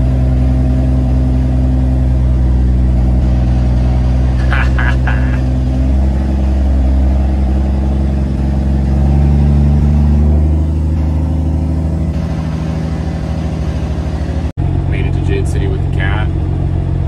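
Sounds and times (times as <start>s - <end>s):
truck diesel engine from cab: 0.0s - 17.0s.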